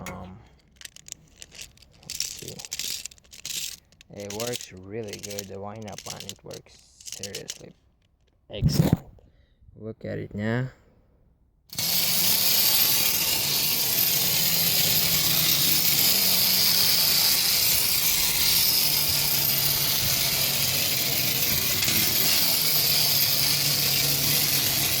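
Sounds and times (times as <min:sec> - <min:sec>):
clockwork toy whirring buzz: 0:00.7 - 0:07.7, 0:11.7 - 0:25.0.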